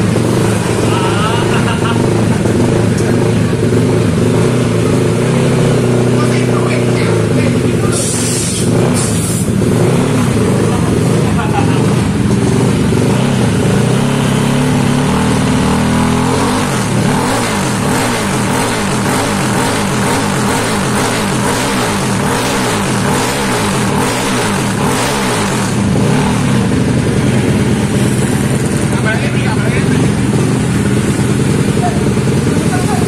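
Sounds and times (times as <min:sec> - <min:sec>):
scooter engine revving: 0:00.0 - 0:33.0.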